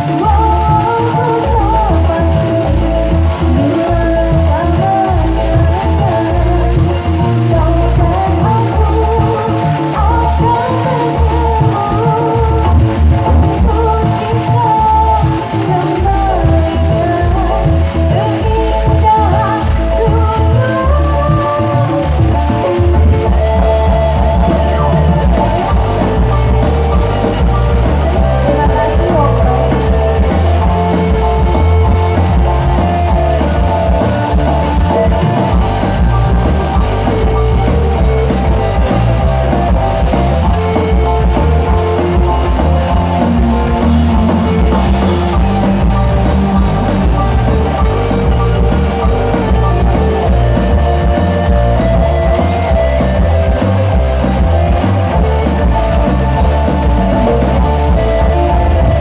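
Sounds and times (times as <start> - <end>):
loud music with heavy bass beat: 0.0 - 59.0.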